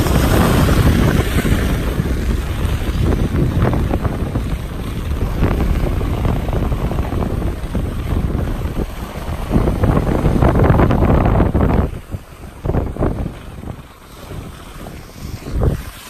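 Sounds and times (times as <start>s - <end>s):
skis carving on packed snow: 0.0s - 16.0s
wind buffeting microphone: 0.0s - 16.0s.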